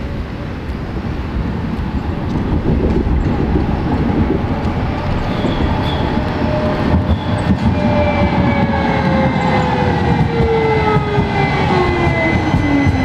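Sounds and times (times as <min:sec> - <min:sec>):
tram rumbling along track: 0:00.0 - 0:13.0.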